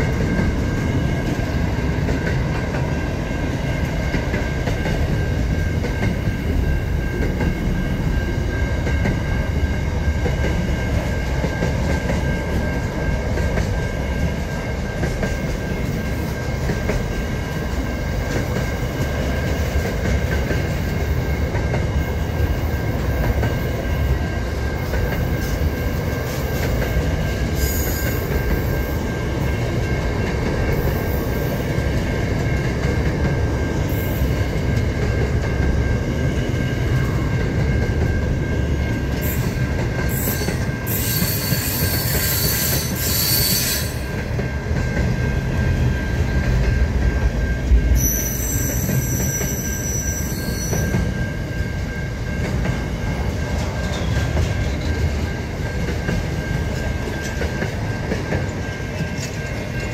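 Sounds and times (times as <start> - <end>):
freight train rumbling on rails: 0.0 - 59.9
train wheels squealing: 0.0 - 59.9.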